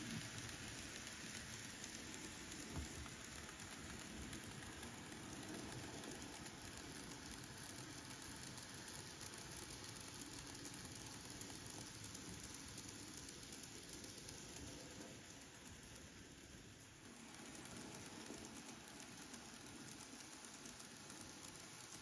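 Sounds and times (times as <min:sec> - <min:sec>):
model train rolling on track: 0:00.0 - 0:22.0
small motor running: 0:00.0 - 0:22.0.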